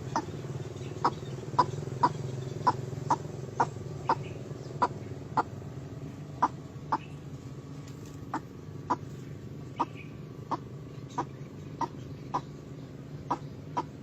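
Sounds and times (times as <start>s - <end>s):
waterhen calling: 0.0s - 5.6s, 8.2s - 14.0s
steady low hum: 0.0s - 14.0s.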